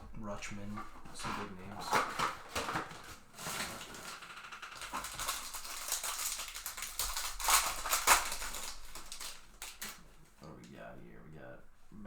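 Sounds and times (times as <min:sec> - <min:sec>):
trading cards rustling: 0:00.2 - 0:10.4.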